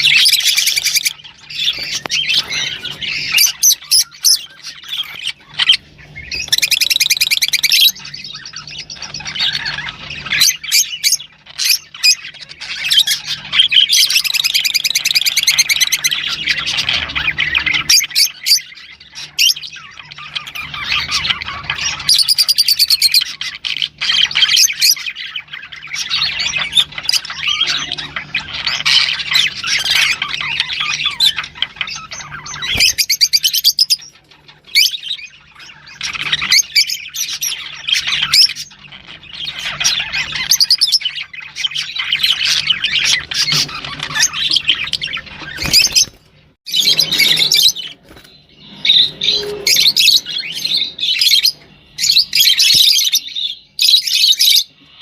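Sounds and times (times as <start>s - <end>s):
songbird trilling and chirping: 0.0s - 55.0s.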